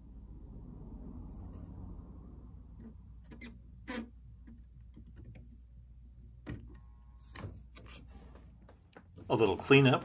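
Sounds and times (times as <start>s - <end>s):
low steady hum: 0.0s - 9.8s.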